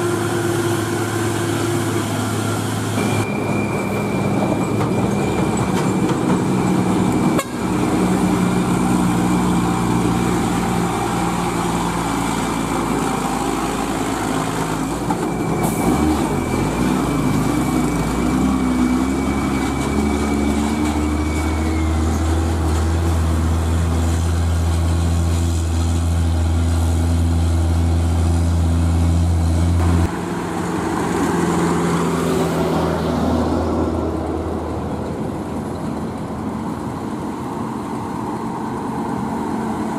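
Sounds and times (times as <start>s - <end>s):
diesel truck engines pulling uphill: 0.0s - 39.9s.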